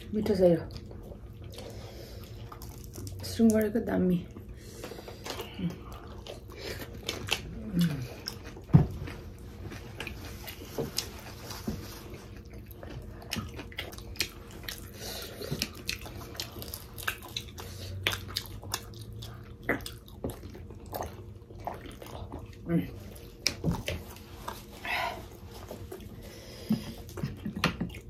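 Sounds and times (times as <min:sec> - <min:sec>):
wet biting and chewing: 0:00.7 - 0:03.6, 0:04.3 - 0:28.0.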